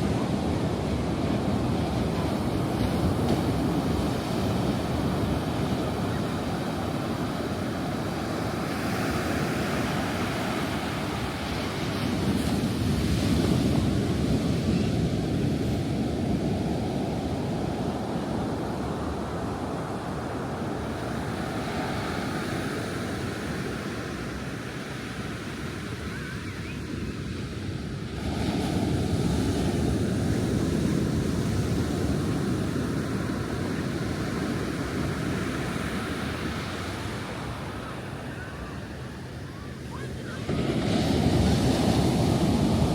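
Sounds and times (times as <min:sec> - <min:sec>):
ocean surf washing onto beach: 0:00.0 - 0:42.9.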